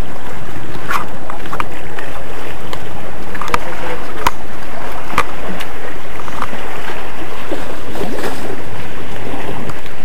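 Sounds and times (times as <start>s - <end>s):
sea surf: 0.0s - 10.0s.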